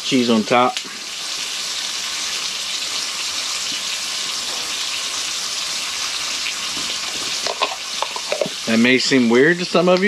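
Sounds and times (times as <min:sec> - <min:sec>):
ham sizzling in a pan: 0:00.0 - 0:10.0.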